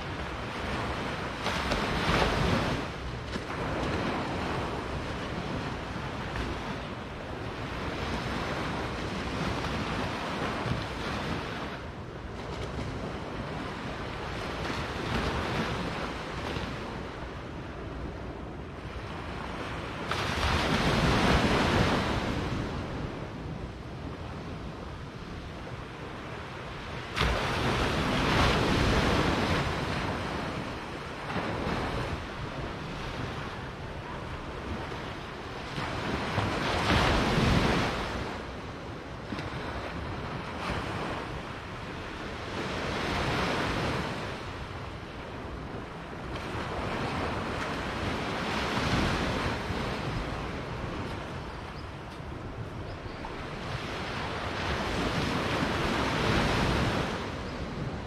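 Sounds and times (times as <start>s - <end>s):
surf waves breaking on beach: 0.0s - 58.0s
wind noise on microphone: 0.0s - 58.0s.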